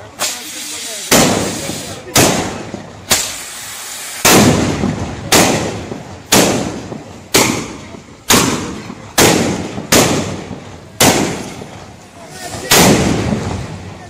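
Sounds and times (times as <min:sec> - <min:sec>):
firework bangs: 0:00.0 - 0:14.0.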